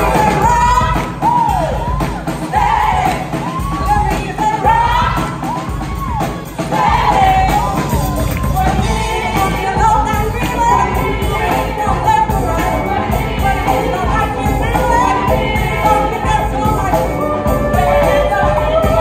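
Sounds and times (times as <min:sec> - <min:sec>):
bass guitar: 0:00.0 - 0:19.0
drum kit: 0:00.0 - 0:19.0
women singing: 0:00.0 - 0:19.0.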